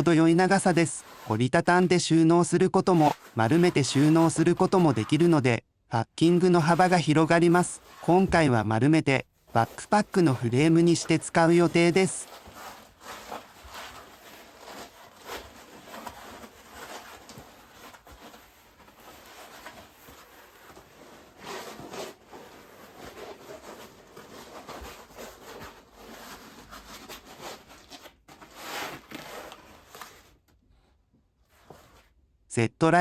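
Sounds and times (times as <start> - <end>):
foam rustling against fabric: 0.0 - 1.9, 2.8 - 5.5, 6.2 - 8.6, 9.4 - 30.4.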